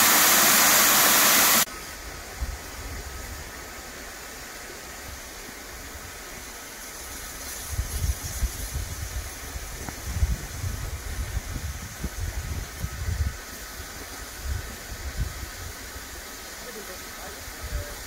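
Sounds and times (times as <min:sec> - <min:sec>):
steam hissing from locomotive: 0:00.0 - 0:18.0.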